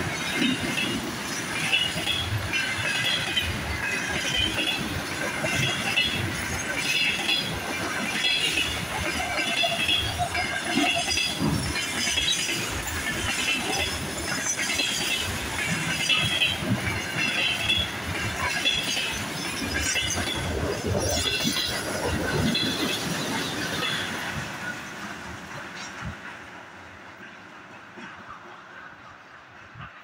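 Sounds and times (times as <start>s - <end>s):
freight train wagons rolling past: 0.0s - 30.0s
train wheel noise: 0.0s - 30.0s.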